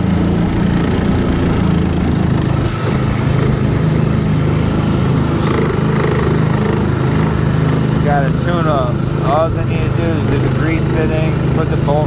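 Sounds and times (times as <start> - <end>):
outboard boat motor droning: 0.0 - 12.0.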